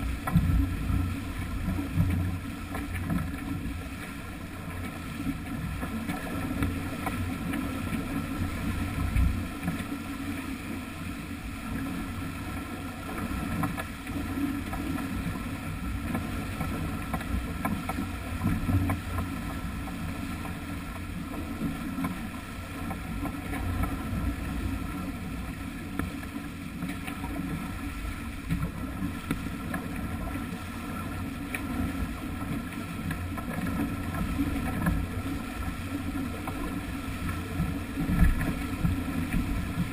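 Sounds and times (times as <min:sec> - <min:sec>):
water rushing along hull: 0:00.0 - 0:39.9.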